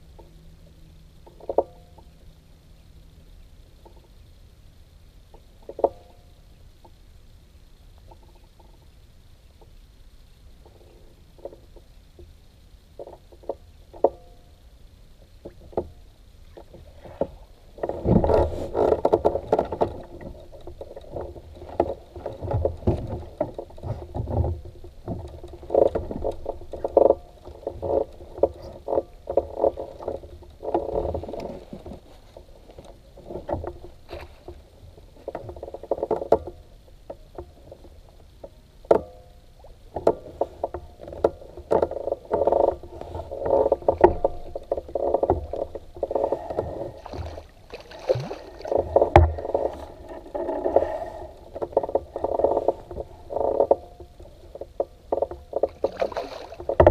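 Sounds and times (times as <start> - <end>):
kayak knocking and creaking: 0.0 - 4.4, 5.3 - 7.0, 7.8 - 56.9.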